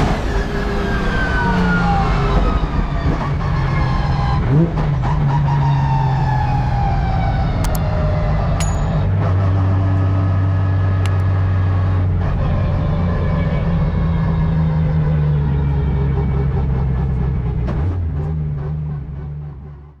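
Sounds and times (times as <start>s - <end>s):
car engine from inside cockpit: 0.0s - 20.0s.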